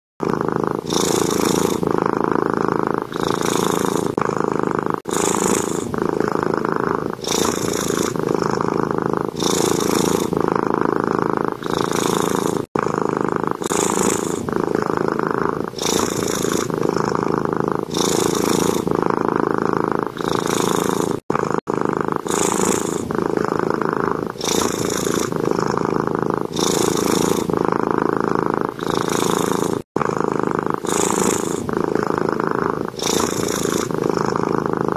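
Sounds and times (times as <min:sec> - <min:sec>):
cat purring: 0:00.2 - 0:34.9.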